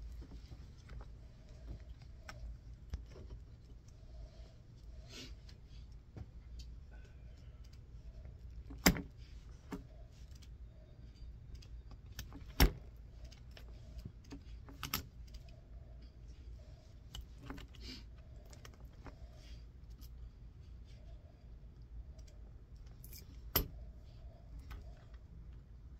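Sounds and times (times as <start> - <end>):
cable wires being handled: 0.0 - 25.9.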